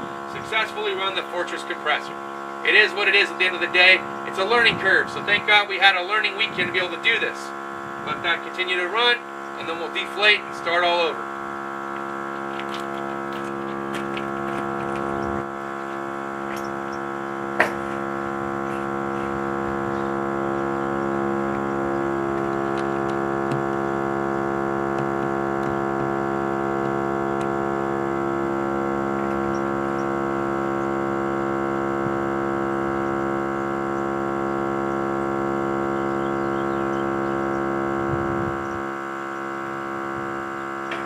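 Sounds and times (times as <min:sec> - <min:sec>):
electric air compressor humming: 0:00.0 - 0:41.0.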